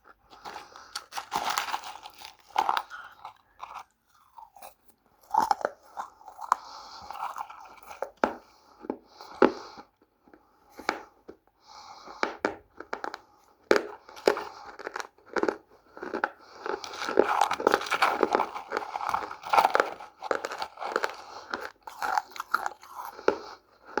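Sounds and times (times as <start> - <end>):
crunchy chewing of dry clay: 0.0 - 24.0.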